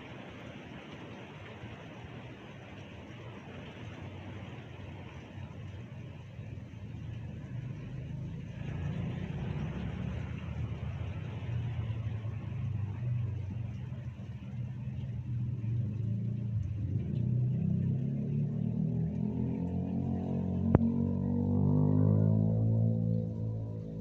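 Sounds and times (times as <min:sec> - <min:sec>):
vehicle driving through water: 0:00.0 - 0:24.0
heavy rain hissing: 0:00.1 - 0:20.1.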